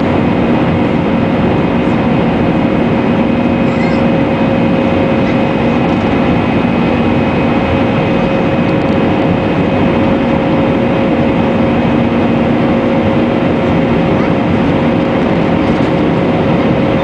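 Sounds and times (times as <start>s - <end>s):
faint whine: 0.0s - 17.0s
jet engine roar in cabin: 0.0s - 17.0s
steady hums: 0.0s - 17.0s.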